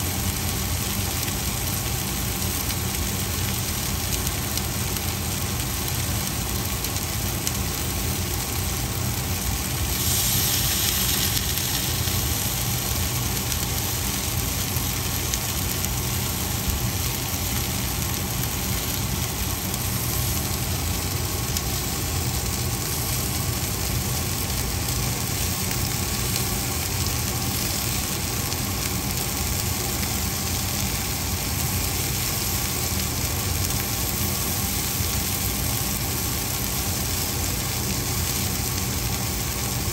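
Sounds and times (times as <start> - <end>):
low mechanical hum with hiss: 0.0 - 39.9.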